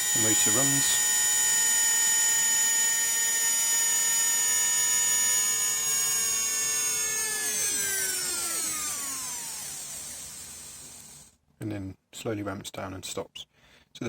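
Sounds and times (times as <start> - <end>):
small electric motor whining: 0.0 - 11.3.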